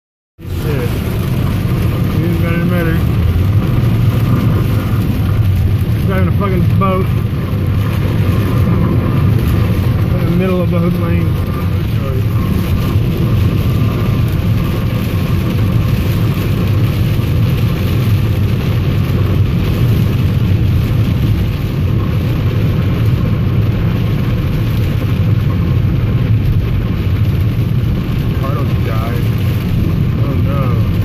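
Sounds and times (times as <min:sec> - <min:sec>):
car engine rumble: 0:00.4 - 0:31.0
rain on car roof: 0:00.4 - 0:31.0
road noise: 0:00.4 - 0:31.0.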